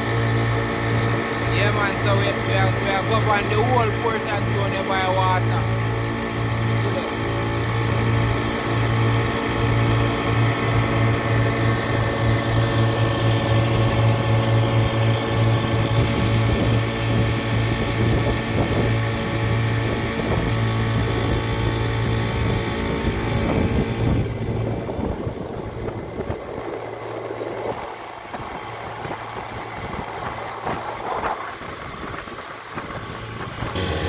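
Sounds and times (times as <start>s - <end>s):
outboard engine running: 0.0s - 34.0s
water and wind noise: 0.0s - 34.0s.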